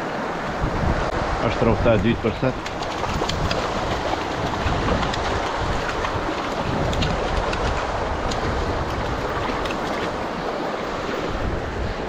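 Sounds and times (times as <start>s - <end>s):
river running over rocks: 0.0s - 12.0s.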